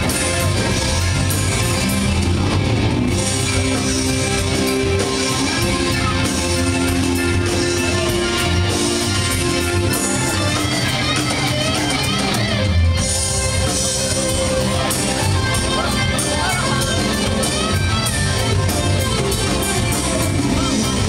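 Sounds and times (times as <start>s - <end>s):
drum kit: 0.0s - 21.0s
keyboards sustained chords: 0.0s - 21.0s
rock band playing: 0.0s - 21.0s.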